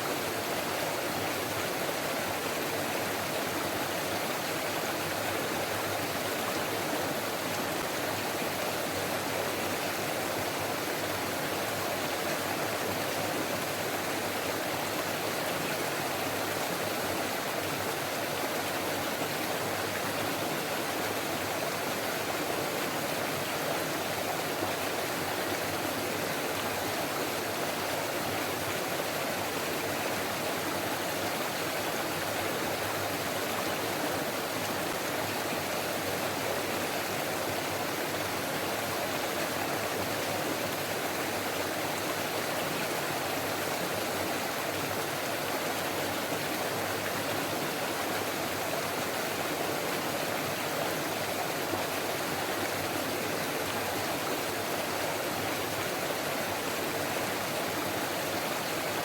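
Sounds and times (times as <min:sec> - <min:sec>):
stream flowing and babbling: 0:00.0 - 0:59.0.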